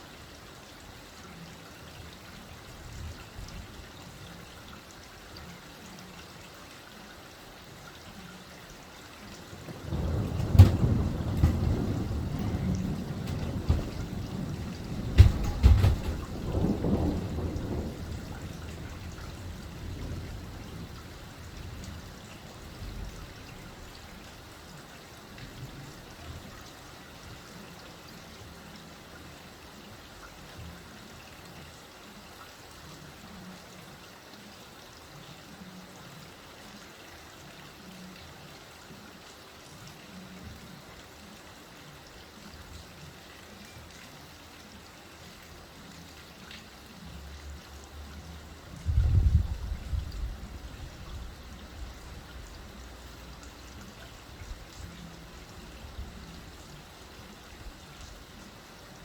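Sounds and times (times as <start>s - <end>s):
light rain: 0.0s - 59.0s
water trickling and dripping: 0.0s - 59.0s.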